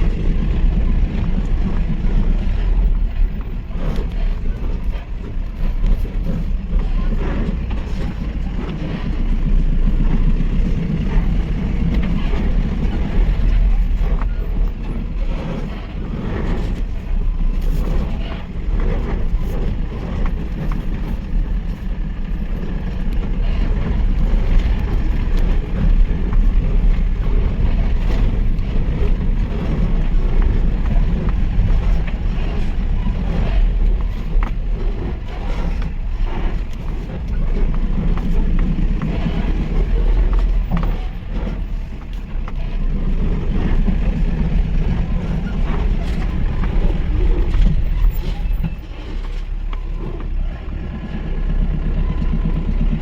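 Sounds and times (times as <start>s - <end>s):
truck engine and road rumble: 0.0s - 53.0s.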